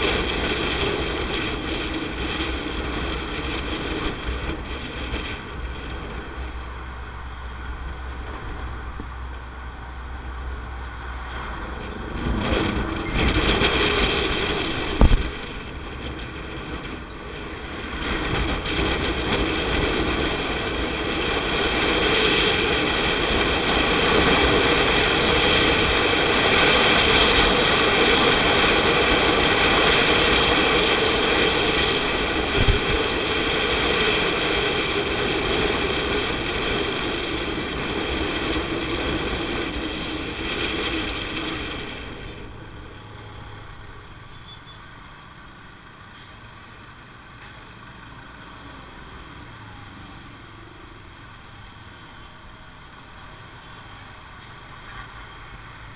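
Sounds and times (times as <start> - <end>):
wind noise: 0.0 - 48.4
motorcycle engine: 0.0 - 53.2.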